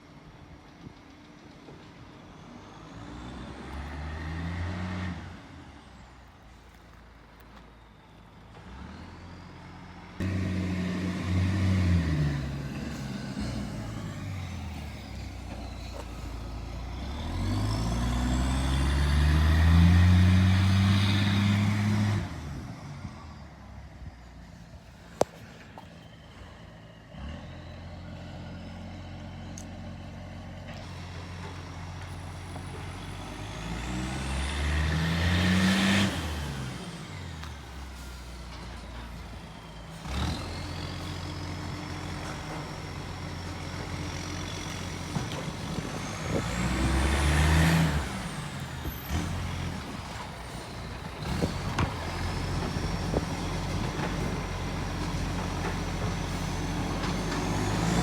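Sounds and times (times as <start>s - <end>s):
diesel engine idling and revving: 0.0s - 58.0s.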